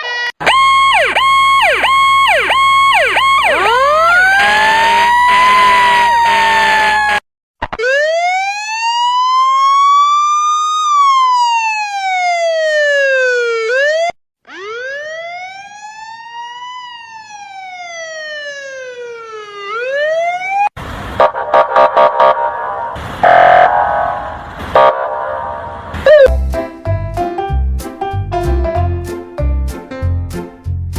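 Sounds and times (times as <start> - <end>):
emergency vehicle wail siren: 0.0 - 26.4
rapidly pulsing siren: 0.4 - 7.2, 7.8 - 26.3.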